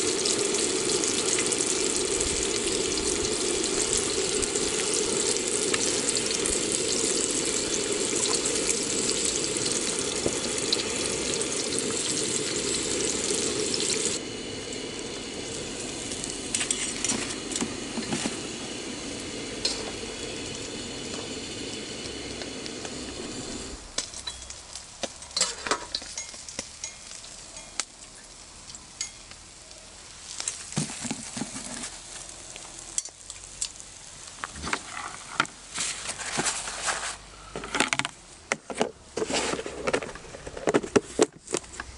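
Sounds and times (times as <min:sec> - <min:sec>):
fish sizzling in hot oil: 0:00.0 - 0:37.3.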